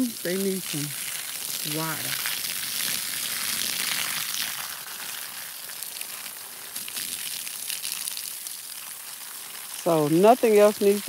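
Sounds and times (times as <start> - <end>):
garden hose spraying water: 0.0 - 11.0
water splashing: 0.0 - 11.0.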